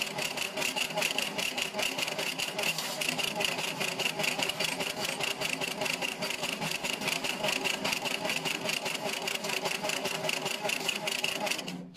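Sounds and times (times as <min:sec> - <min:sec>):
peeling machine rattling: 0:00.0 - 0:11.9.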